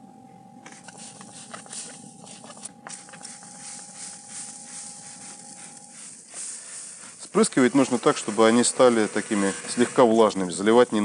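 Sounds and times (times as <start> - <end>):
spray bottle spritzing: 0.7 - 9.6.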